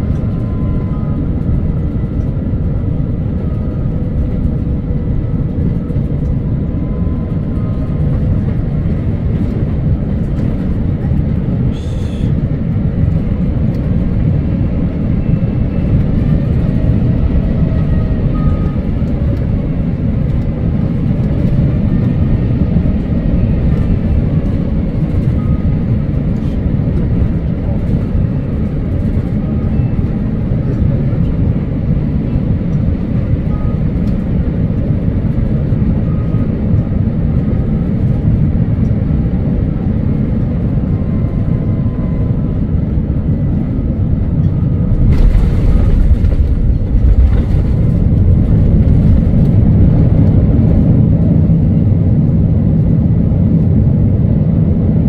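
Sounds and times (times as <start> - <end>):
faint engine tones: 0.0 - 54.2
airliner cabin rumble: 0.0 - 55.0.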